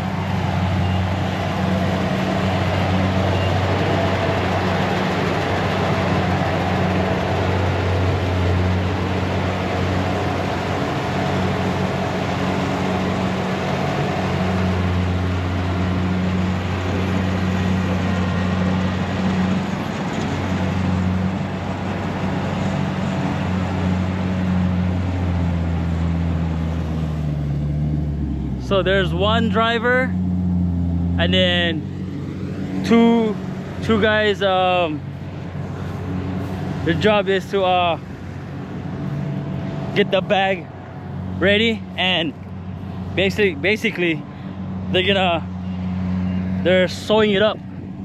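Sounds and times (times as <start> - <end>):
combine harvester engine hum: 0.0 - 48.0.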